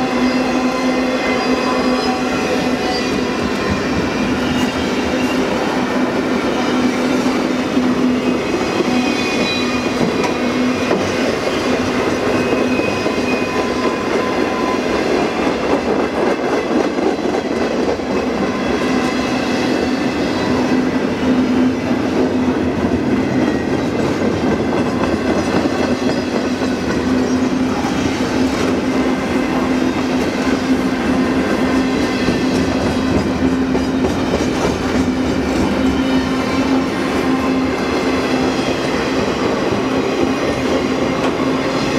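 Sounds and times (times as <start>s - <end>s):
train wheels on rails: 0.0s - 41.9s.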